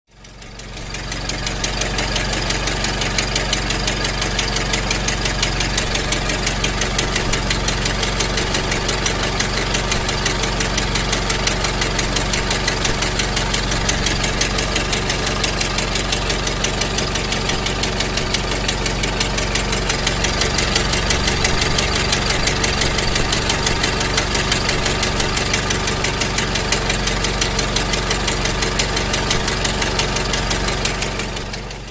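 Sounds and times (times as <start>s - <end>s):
engine idling with rapid chugging: 0.1s - 31.9s.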